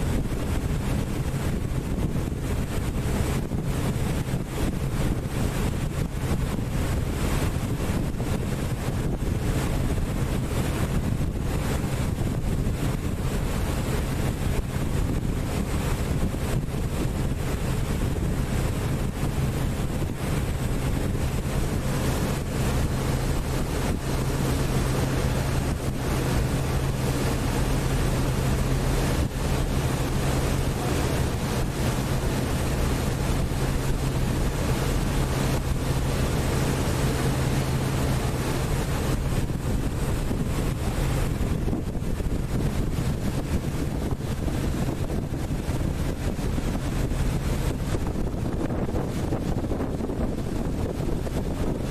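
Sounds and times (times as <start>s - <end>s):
boat engine hum: 0.0s - 51.9s
water washing along hull: 0.0s - 51.9s
wind buffeting microphone: 0.0s - 51.9s.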